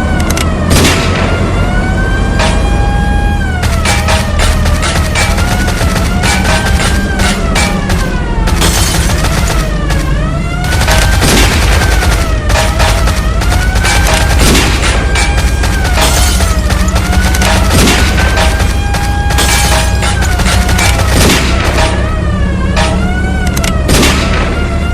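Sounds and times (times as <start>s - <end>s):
siren wailing: 0.0s - 24.9s
gunshots and gunfire volleys: 0.2s - 1.5s, 3.5s - 24.9s.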